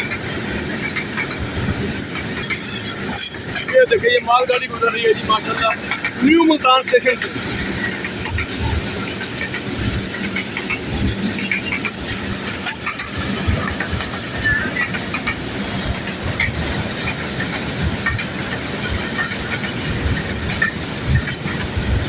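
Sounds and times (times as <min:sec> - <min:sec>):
freight train wagons rumbling: 0:00.0 - 0:22.0
train wheels clattering over rails: 0:00.0 - 0:22.0.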